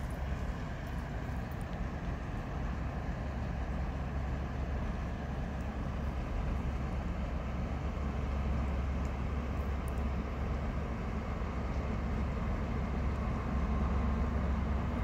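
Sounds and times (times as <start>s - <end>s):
ship engine low drone: 0.0s - 15.0s.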